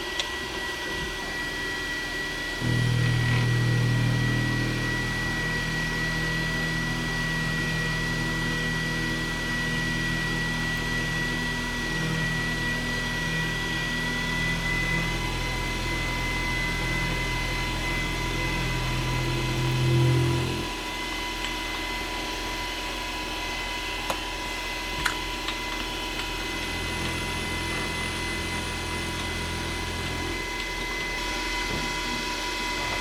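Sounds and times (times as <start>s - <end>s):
high cutter whine: 0.0s - 33.0s
milling machine motor hum: 0.0s - 33.0s.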